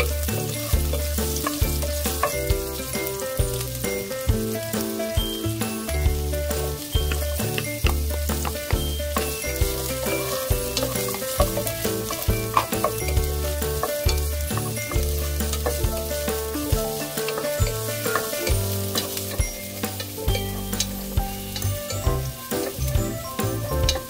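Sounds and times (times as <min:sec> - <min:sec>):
background music with bass line: 0:00.0 - 0:24.0
food sizzling in a pan: 0:00.0 - 0:24.0
utensil tapping a pan: 0:00.0 - 0:24.0.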